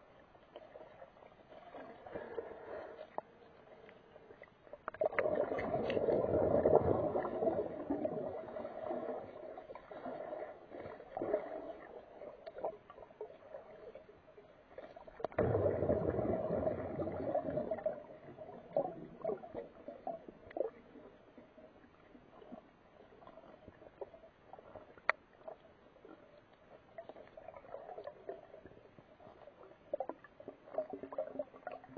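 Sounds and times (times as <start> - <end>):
underwater water swells: 0.0 - 31.9.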